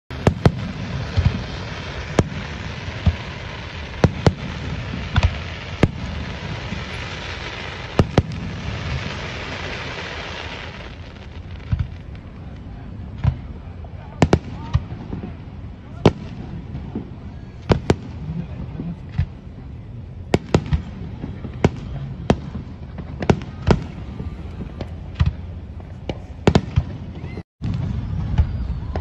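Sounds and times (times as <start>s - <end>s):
distant fireworks bursting: 0.1s - 29.0s
steady hiss: 0.2s - 26.5s.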